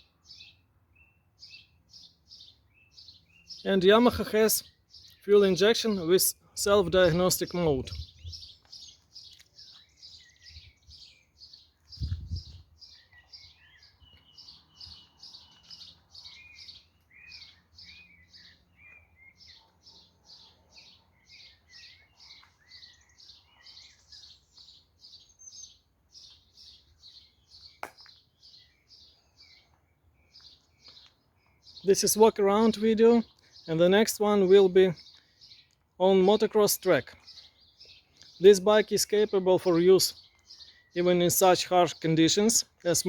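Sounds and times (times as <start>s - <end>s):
bird chirping: 0.0s - 43.0s.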